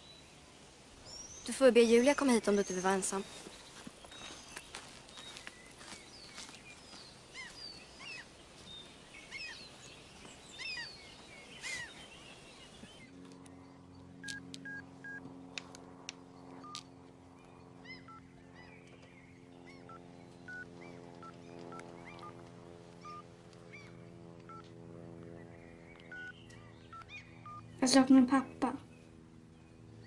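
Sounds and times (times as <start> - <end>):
birds chirping and singing: 1.0 - 14.6, 16.2 - 24.4, 25.1 - 30.0.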